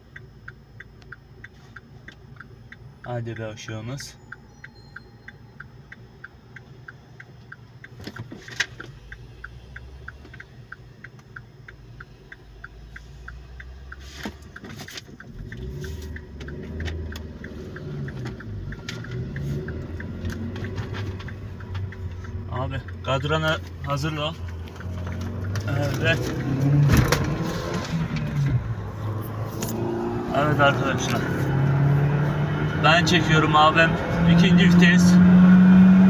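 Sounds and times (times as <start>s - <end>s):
car engine: 0.0s - 36.0s
turn signal ticking: 0.0s - 36.0s.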